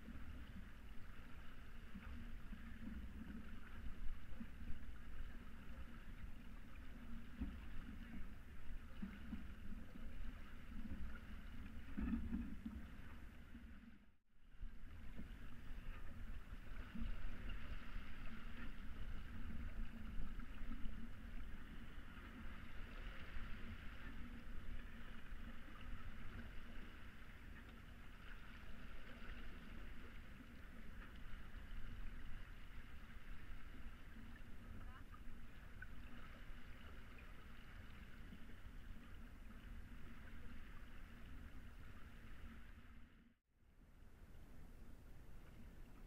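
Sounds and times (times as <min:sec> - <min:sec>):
low steady rumble: 0:00.0 - 0:46.0
water rushing along a hull: 0:00.0 - 0:46.0.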